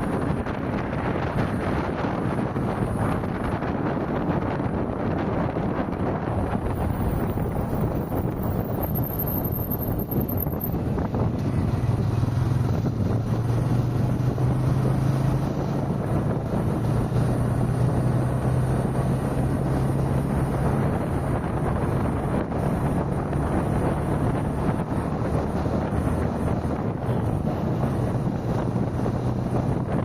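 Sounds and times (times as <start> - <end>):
car tyre and wind noise: 0.0 - 30.0.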